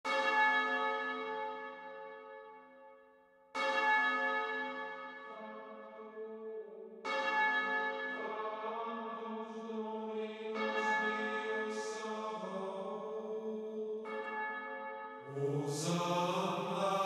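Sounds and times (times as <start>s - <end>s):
church bell tolling: 0.1s - 6.2s, 7.0s - 17.0s.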